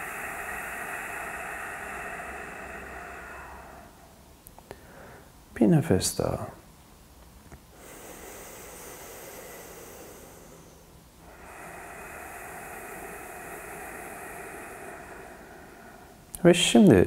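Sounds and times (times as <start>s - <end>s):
man breathing deeply: 0.0s - 5.4s, 7.7s - 16.4s.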